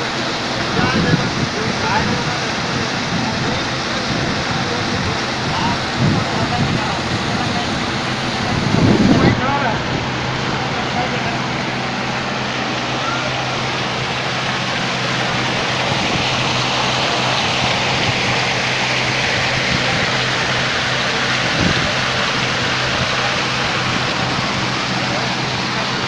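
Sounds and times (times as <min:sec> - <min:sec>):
waterfall splashing into pond: 0:00.0 - 0:26.0.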